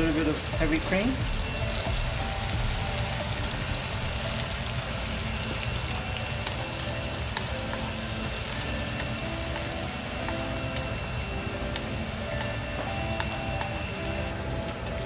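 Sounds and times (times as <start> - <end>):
mushrooms sizzling in a pan: 0.0 - 14.4.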